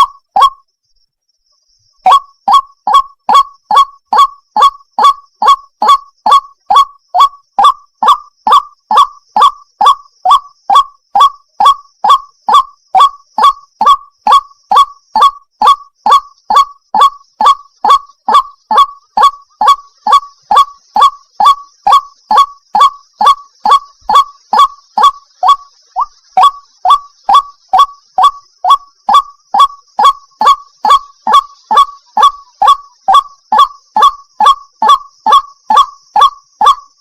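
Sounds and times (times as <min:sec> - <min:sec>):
waterhen calling: 0:00.0 - 0:00.6, 0:02.0 - 0:37.0.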